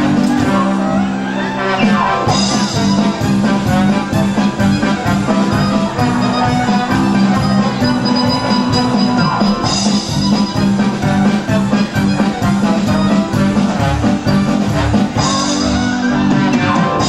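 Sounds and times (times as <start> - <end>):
drum kit: 0.0 - 1.1, 1.8 - 17.0
keyboard: 0.0 - 17.0
trombone: 0.0 - 17.0.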